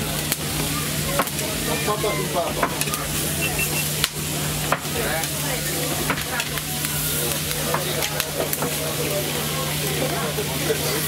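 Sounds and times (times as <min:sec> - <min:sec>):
food sizzling on a grill: 0:00.0 - 0:11.0
voices chattering: 0:00.0 - 0:11.0.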